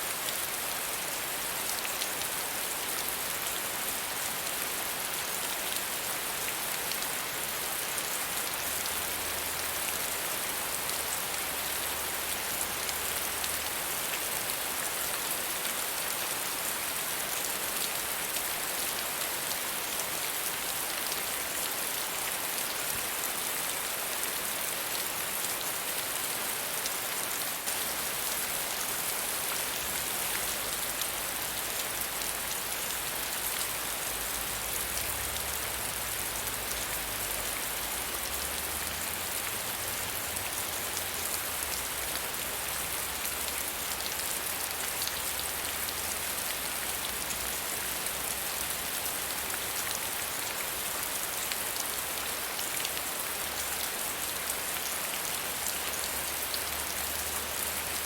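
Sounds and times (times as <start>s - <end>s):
soft rain falling: 0.0s - 58.0s.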